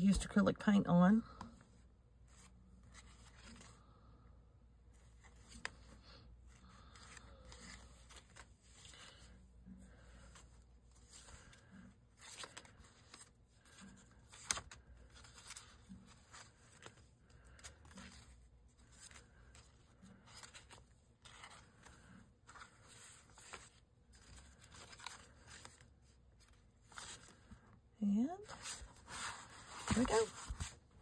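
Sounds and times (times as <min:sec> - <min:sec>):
paper pages rustling: 0:02.2 - 0:04.0, 0:04.9 - 0:27.7, 0:28.4 - 0:31.0.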